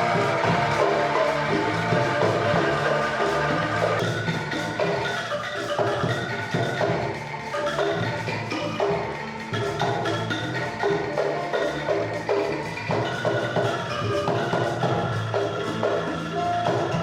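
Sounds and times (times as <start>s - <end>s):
angklung ensemble playing: 0.0s - 17.0s.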